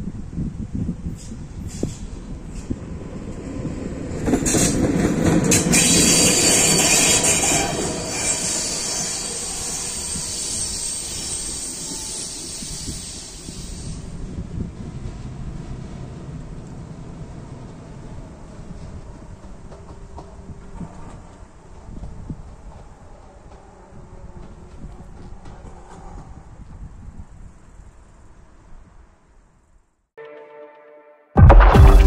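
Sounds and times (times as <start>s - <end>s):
train wheels on rails: 0.8s - 26.9s.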